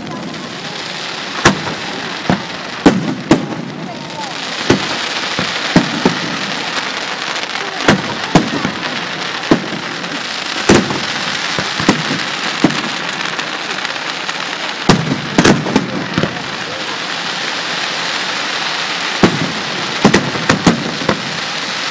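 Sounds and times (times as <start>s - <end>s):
dense crackling of fireworks: 0.0s - 21.9s
firework shells bursting: 1.2s - 21.9s.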